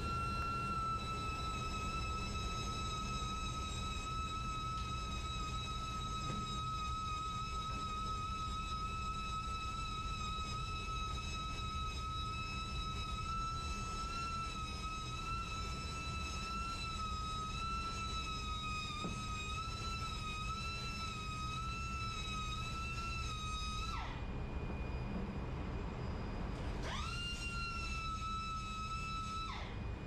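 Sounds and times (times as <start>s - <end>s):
high machinery whine: 0.0s - 30.0s
low machinery rumble: 0.0s - 30.0s.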